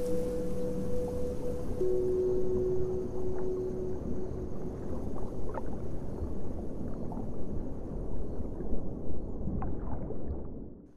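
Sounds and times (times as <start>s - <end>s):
water rumbling and lapping: 0.0s - 10.9s.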